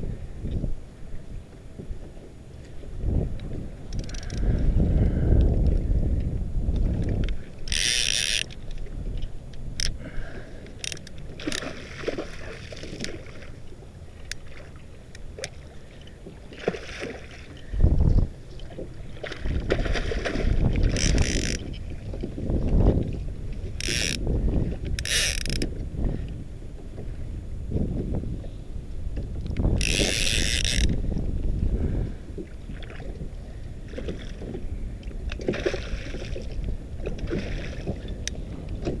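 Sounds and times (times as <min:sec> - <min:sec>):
wind rumble on microphone: 0:00.0 - 0:14.6, 0:16.3 - 0:39.0
water splashing around a kayak: 0:00.0 - 0:39.0.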